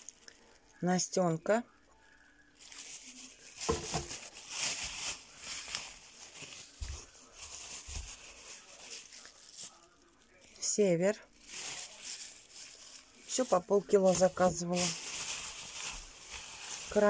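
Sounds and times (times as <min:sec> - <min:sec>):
plastic bags rustling and crinkling: 0:00.0 - 0:01.6, 0:02.4 - 0:17.0.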